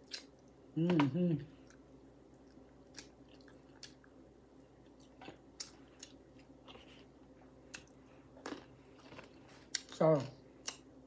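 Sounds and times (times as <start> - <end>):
chewing with soft crunches: 1.5 - 10.9.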